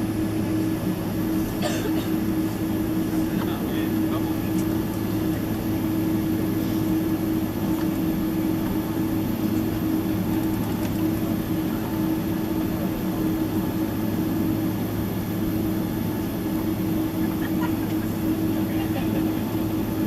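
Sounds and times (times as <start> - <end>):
airplane cabin hum: 0.0 - 20.0.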